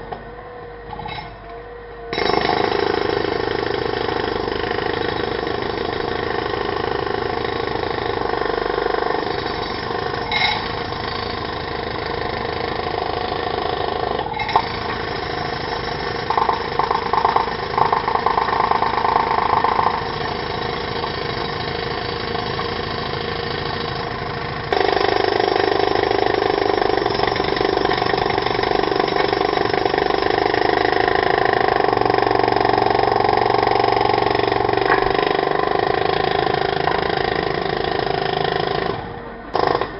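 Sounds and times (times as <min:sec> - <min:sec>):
jackhammer running: 0:02.1 - 0:39.9
rapid rattling hammering: 0:02.2 - 0:39.0.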